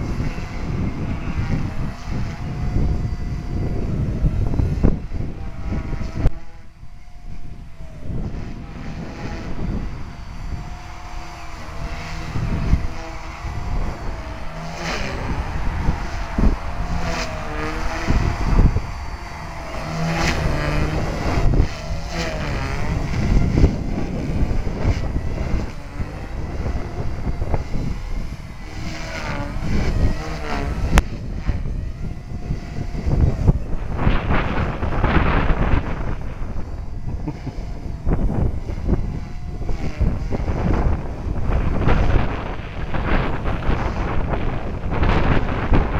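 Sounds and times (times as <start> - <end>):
rc helicopter rotor whine: 0.0 - 45.9
wind buffeting microphone: 0.0 - 45.9.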